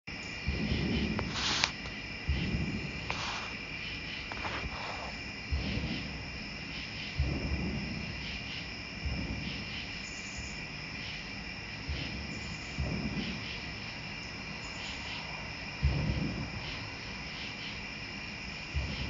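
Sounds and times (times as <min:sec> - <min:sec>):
insects trilling: 0:00.1 - 0:19.0
low dull rumbling: 0:00.2 - 0:19.0.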